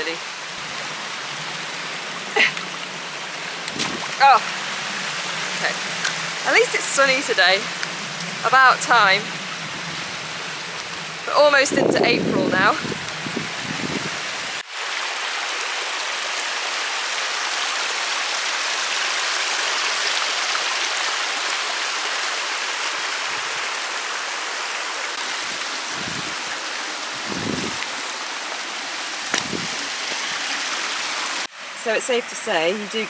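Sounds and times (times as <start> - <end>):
stream running over stones: 0.0 - 33.0.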